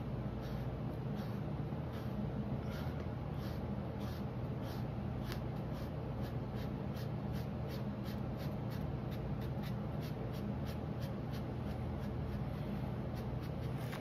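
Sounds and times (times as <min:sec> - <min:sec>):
marker scribbling on paper: 0:00.4 - 0:14.0.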